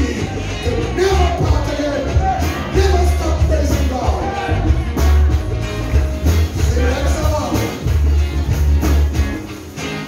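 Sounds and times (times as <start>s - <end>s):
band with bass and drums: 0.0s - 10.0s.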